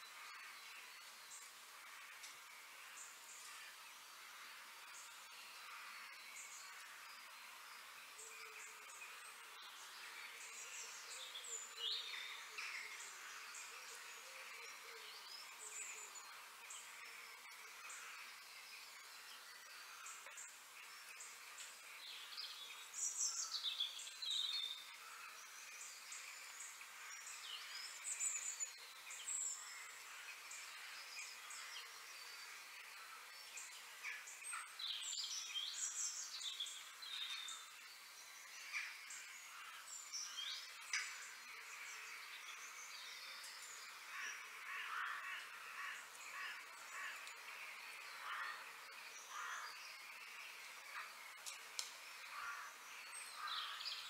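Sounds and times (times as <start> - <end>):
birds chirping: 0.0 - 54.0
steady background hiss: 0.0 - 54.0.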